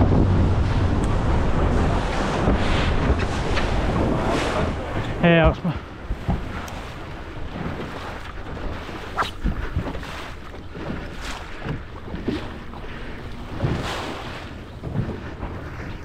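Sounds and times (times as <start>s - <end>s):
hull thumping on waves: 0.0s - 16.0s
rush of water: 0.0s - 16.0s
wind buffeting microphone: 0.0s - 16.0s.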